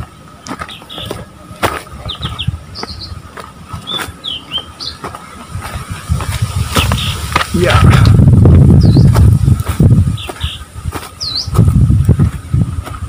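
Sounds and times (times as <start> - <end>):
small birds chirping: 0.0 - 7.8, 8.6 - 13.0
footsteps crunching on dry leaves: 0.0 - 13.0.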